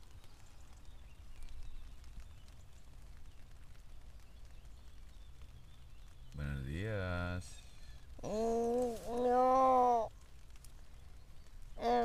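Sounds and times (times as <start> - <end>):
rain ticking on tent fabric: 0.0 - 12.0.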